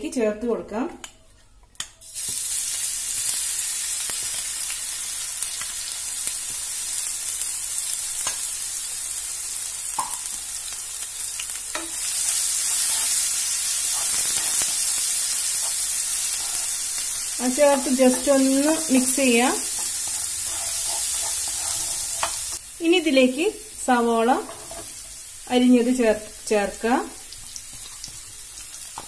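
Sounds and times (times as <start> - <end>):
spices sizzling in hot oil: 1.8 - 29.0.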